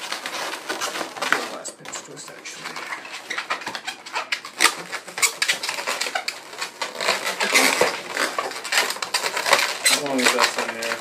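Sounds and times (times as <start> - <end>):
balloons squeaking when twisted: 0.0 - 11.0.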